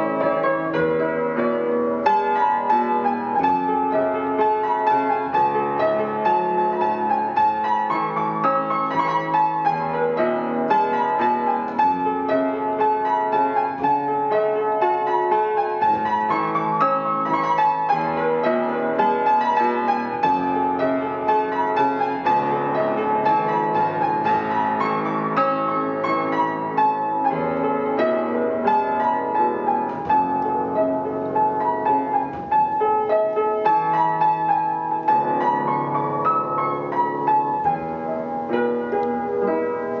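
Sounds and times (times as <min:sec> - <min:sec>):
piano ballad: 0:00.0 - 0:40.0.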